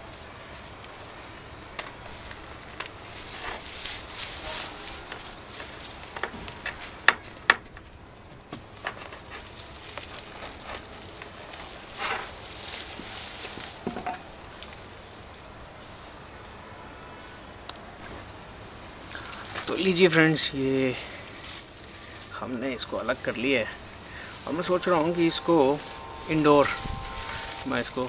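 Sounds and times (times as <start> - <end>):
dry leaves and soil rustling: 0.0 - 28.0.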